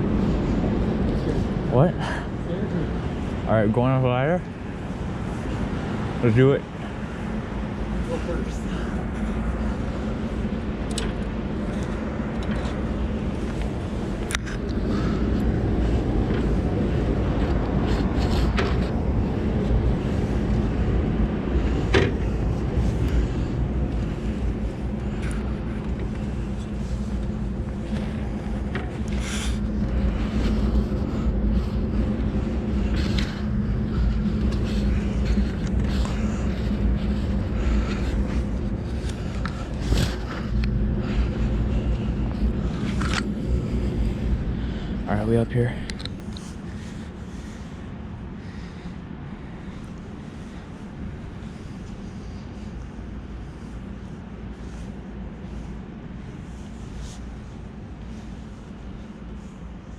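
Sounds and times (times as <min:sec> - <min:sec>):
low rumble: 0:00.0 - 0:03.8, 0:04.5 - 0:59.9
faint hum: 0:00.0 - 0:59.9.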